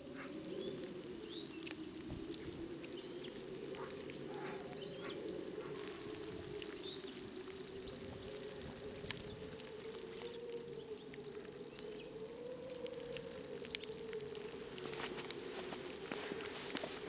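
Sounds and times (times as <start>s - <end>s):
faint bird chirps: 0.0s - 14.8s
steady wavering hum: 0.0s - 17.0s
light ticks: 0.2s - 17.0s.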